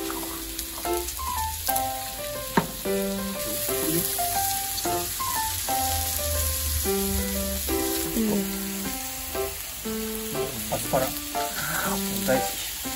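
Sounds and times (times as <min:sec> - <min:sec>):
background music melody: 0:00.0 - 0:12.9
meat sizzling on grill: 0:00.0 - 0:12.9.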